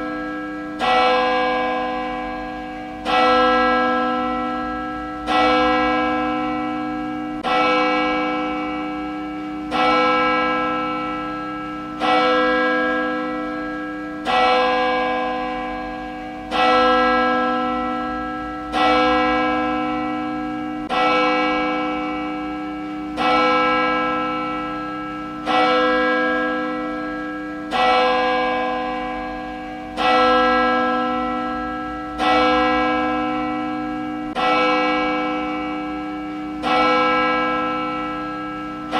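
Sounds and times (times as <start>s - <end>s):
church bell tolling: 0.0s - 38.9s.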